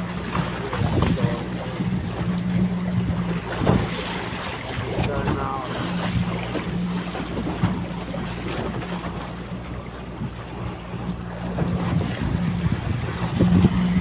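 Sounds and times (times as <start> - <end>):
boat motor running: 0.0 - 14.0
water rushing past hull: 0.0 - 14.0
wind buffeting microphone: 0.0 - 14.0.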